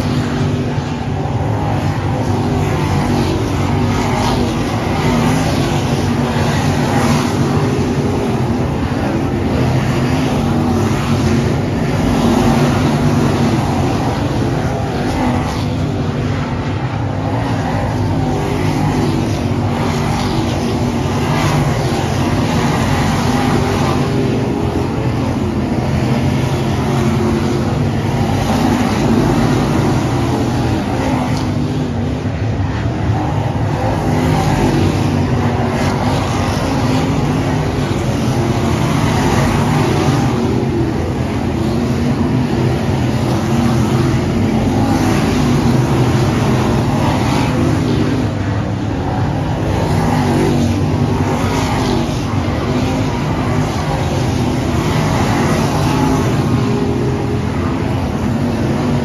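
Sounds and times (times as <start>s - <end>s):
cars passing close: 0.0s - 59.0s
race car engines: 0.0s - 59.0s.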